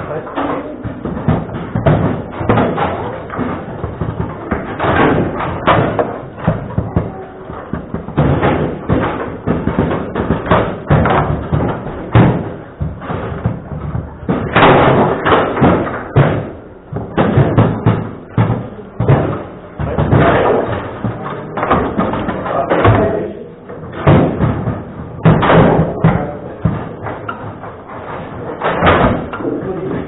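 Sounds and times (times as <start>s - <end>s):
table football ball knocking: 0.0s - 29.8s.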